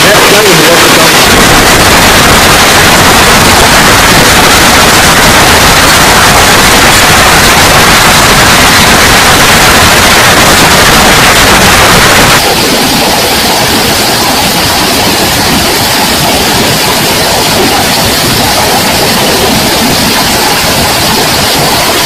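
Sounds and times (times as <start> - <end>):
heavy hail pelting pool and paving: 0.0 - 22.0.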